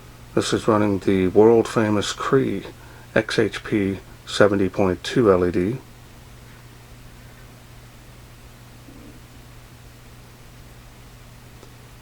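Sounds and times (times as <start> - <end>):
faint hiss: 0.0 - 12.0
low hum: 0.0 - 12.0.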